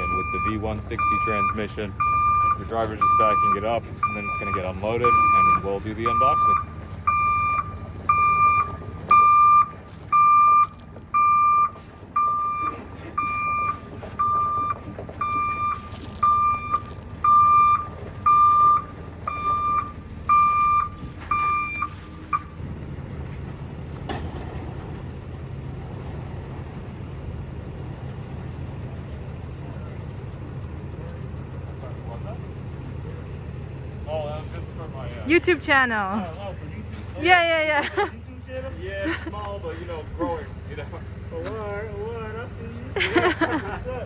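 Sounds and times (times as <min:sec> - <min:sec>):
truck engine rumbling: 0:00.0 - 0:44.0
truck reversing alarm beeping: 0:00.0 - 0:44.0.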